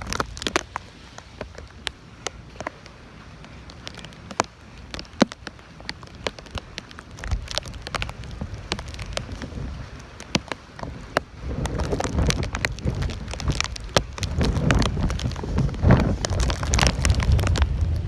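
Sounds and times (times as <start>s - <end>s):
rain patter: 0.0s - 18.0s
raindrops tapping close: 0.0s - 18.0s
wind rumble on microphone: 0.0s - 18.0s.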